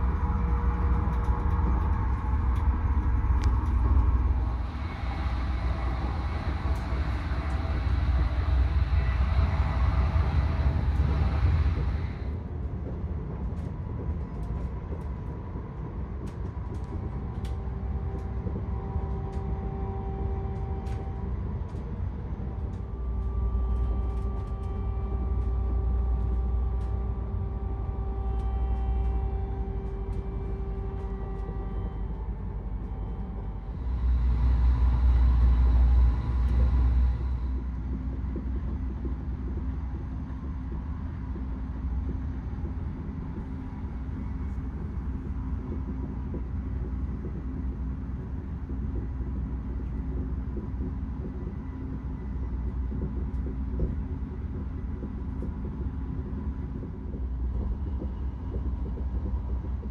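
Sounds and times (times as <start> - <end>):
faint steady hum: 0.0 - 59.9
train rumbling on track: 0.0 - 59.9.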